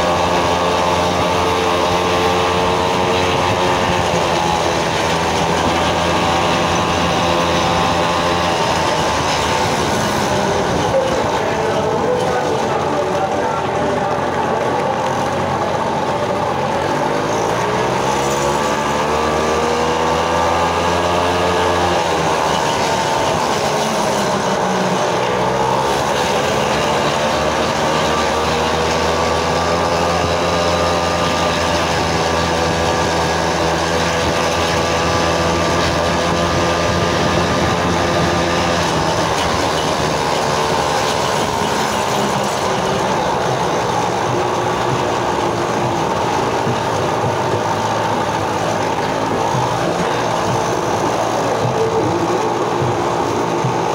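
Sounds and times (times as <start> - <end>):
moped engine running: 0.0 - 53.9.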